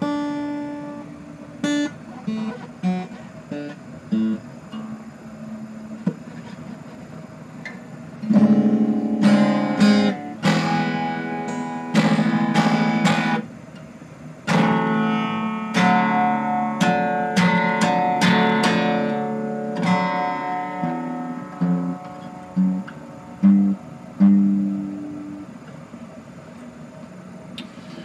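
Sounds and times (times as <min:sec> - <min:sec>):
acoustic guitar strummed chords: 0:00.0 - 0:13.6, 0:14.4 - 0:25.8.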